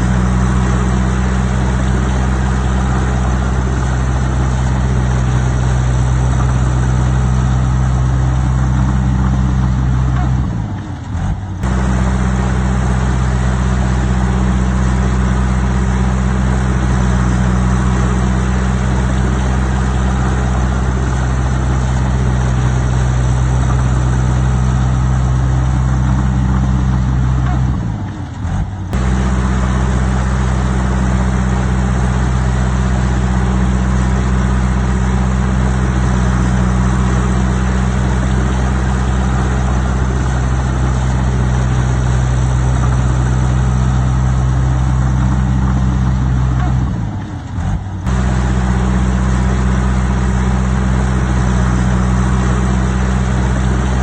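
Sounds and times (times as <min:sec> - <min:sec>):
heavy machine diesel engine running: 0:00.0 - 0:54.0.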